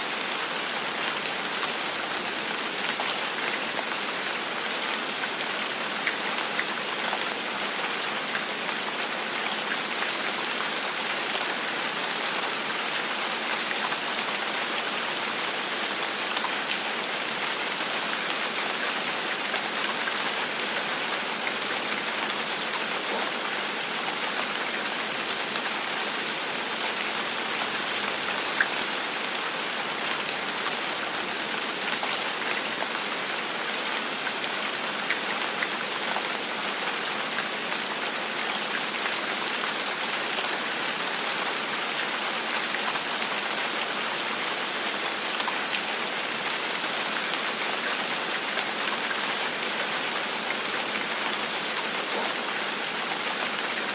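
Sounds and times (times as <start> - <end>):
rain on hard surface: 0.0 - 53.9.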